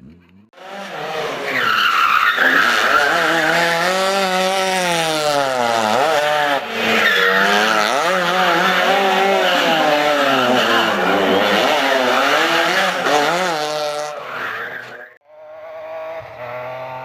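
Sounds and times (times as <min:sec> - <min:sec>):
racing car engine revving: 0:00.6 - 0:14.6.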